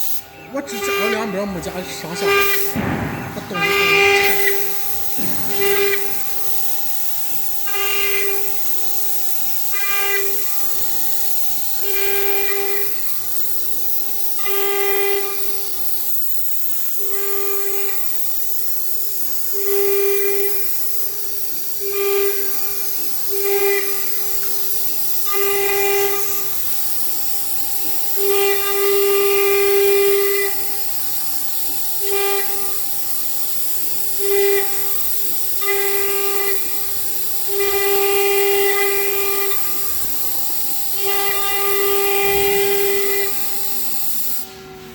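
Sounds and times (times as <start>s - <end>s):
cnc router hiss and whine: 0.0s - 44.9s.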